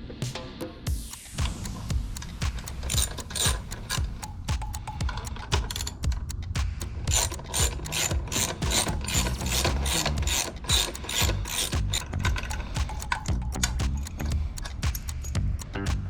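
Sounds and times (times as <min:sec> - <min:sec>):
fast beat background music: 0:00.0 - 0:16.0.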